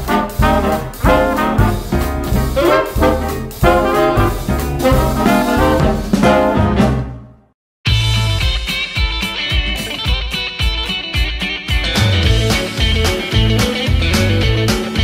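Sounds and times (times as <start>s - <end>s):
upbeat background music: 0.0s - 7.1s, 7.9s - 15.0s.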